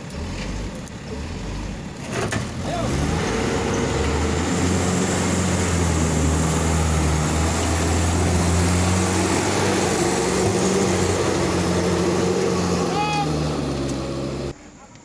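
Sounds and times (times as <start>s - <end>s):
truck engine droning: 0.0s - 14.6s.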